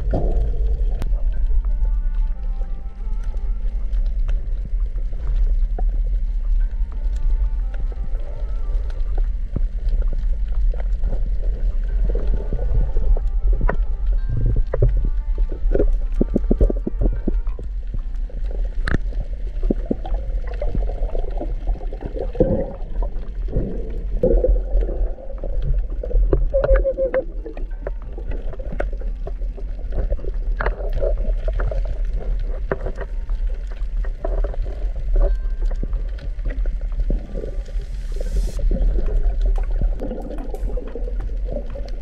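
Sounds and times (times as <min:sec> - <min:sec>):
gurgling water: 0:00.0 - 0:42.0
underwater rumble of moving water: 0:00.0 - 0:42.0.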